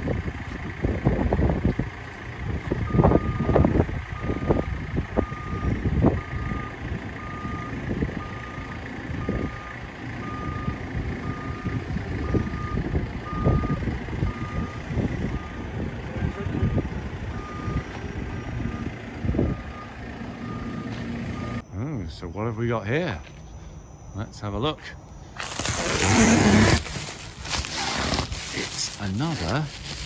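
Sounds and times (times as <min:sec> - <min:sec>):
diesel engine running: 0:00.0 - 0:30.0
reversing alarm beeping: 0:02.8 - 0:28.0.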